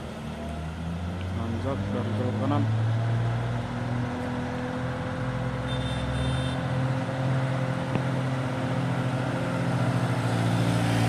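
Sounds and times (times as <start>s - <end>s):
diesel truck engines droning: 0.0s - 11.0s.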